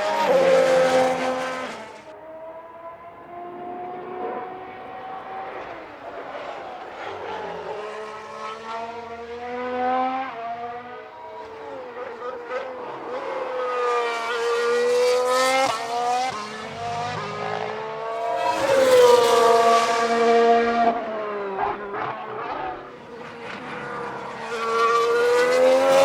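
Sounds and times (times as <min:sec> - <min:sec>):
racing car engines accelerating: 0:00.0 - 0:26.0.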